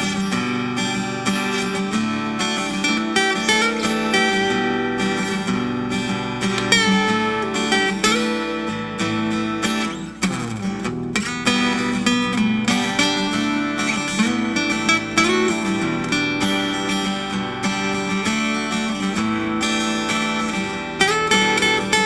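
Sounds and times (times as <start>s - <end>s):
acoustic guitar piece: 0.0s - 22.0s.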